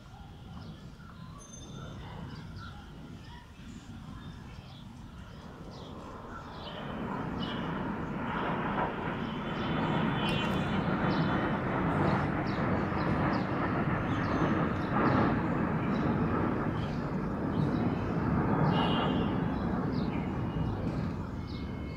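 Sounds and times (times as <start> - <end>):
jet engines rushing: 3.8 - 21.9.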